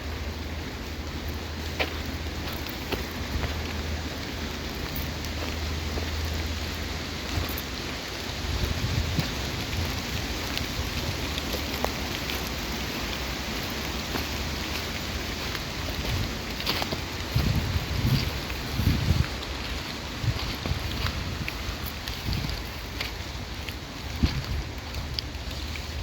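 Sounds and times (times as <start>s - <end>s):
raindrops ticking: 0.0s - 26.0s
steady rain rumble: 0.0s - 26.0s.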